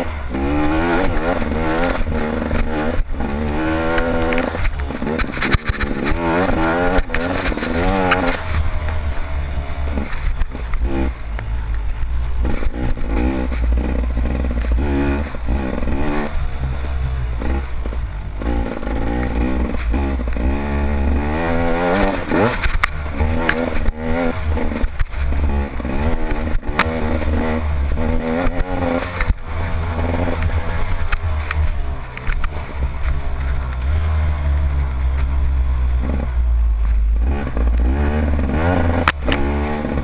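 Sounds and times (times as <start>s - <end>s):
racing engines revving: 0.0s - 40.0s.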